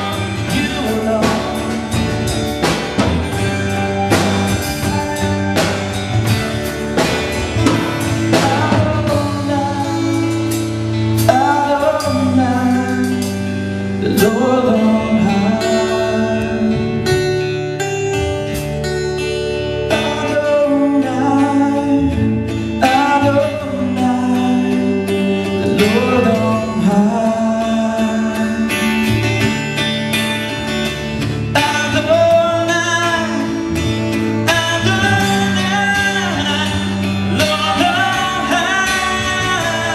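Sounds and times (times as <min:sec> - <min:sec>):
melodic lead guitar line: 0:00.0 - 0:39.9
worship band playing: 0:00.0 - 0:39.9.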